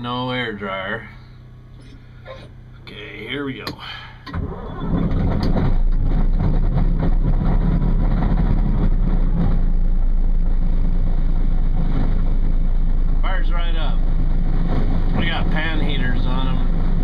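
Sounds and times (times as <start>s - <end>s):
diesel engine starting and running: 0.0s - 17.0s.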